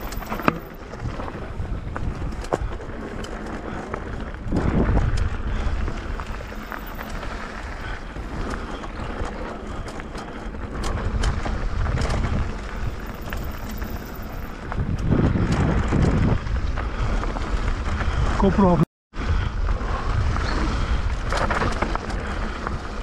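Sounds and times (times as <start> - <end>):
bike rattling clicks: 0.0 - 18.2, 20.3 - 23.0
wind buffeting microphone: 0.0 - 23.0.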